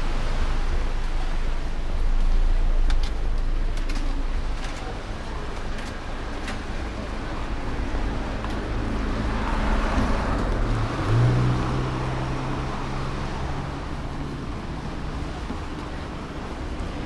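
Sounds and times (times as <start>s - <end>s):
steady engine hum: 0.0s - 17.0s
traffic noise: 0.0s - 17.0s.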